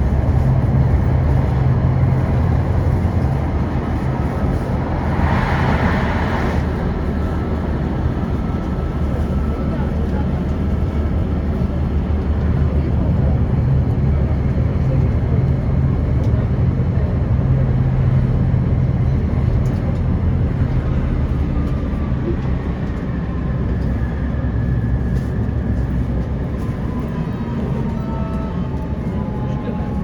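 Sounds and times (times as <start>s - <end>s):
tram wheels rumbling on rails: 0.0s - 30.0s.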